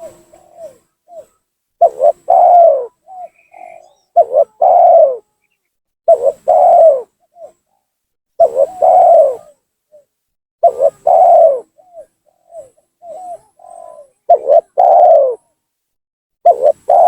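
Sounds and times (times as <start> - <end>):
dove cooing: 0.0 - 5.3, 6.1 - 15.6, 16.4 - 17.0.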